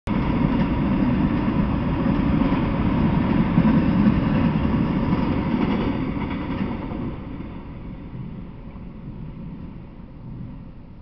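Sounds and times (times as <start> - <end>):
train wheels rumbling on rails: 0.1 - 11.0.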